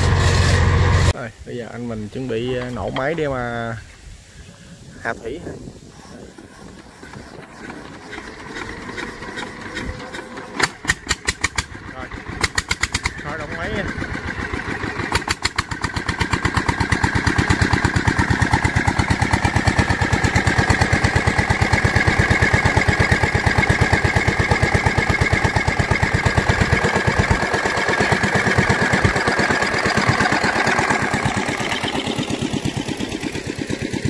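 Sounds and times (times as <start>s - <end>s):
boat engine chugging: 5.9s - 34.0s.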